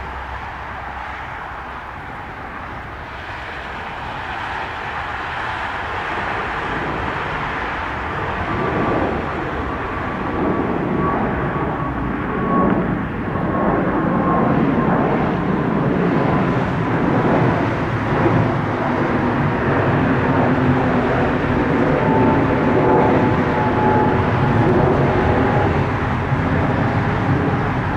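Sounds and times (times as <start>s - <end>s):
aircraft engines rushing: 0.0s - 27.9s
faint high engine whine: 0.0s - 27.9s.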